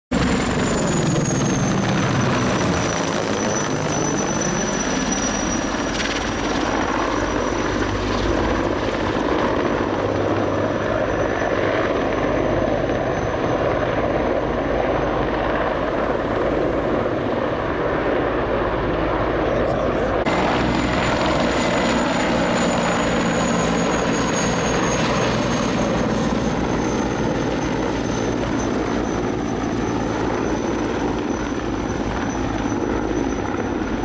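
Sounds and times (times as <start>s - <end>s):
helicopters flying past: 0.1s - 34.0s
high turbine whine: 0.1s - 34.0s.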